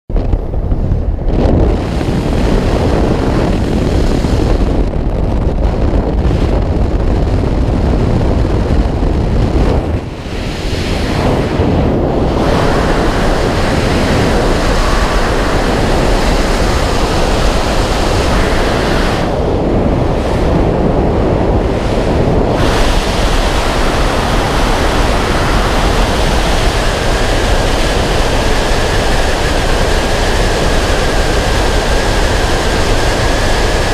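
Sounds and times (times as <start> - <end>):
wind buffeting microphone: 0.1 - 33.9.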